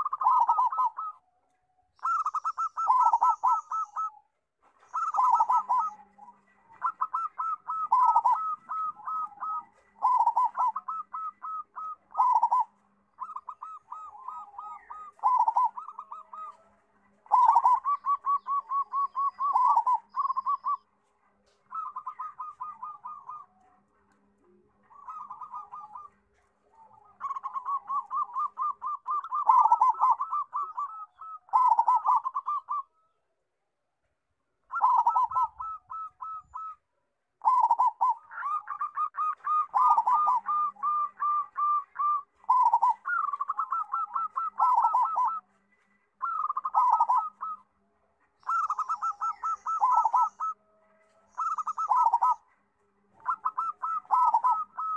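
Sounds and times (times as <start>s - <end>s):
dove cooing: 0.0s - 1.3s, 2.0s - 33.0s, 34.7s - 36.8s, 37.4s - 54.9s.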